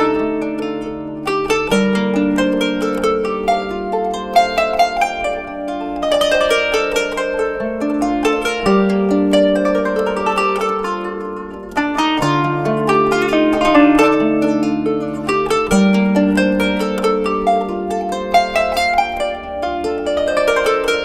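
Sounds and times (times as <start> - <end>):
plucked zither melody: 0.0 - 21.0.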